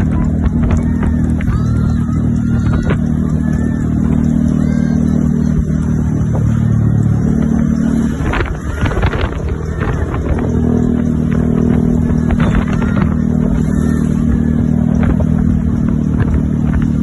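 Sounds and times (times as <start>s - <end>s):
heavy vehicle engine drone: 0.0s - 17.0s
passing vehicle clattering: 0.0s - 17.0s.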